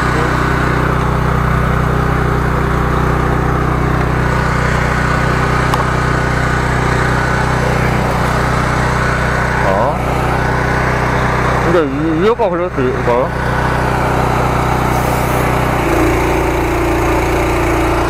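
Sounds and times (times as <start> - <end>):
small engine running steadily: 0.0 - 18.0.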